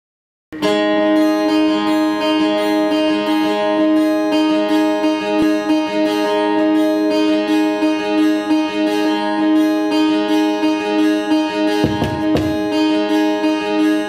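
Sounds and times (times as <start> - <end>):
acoustic guitar strumming: 0.6 - 14.0.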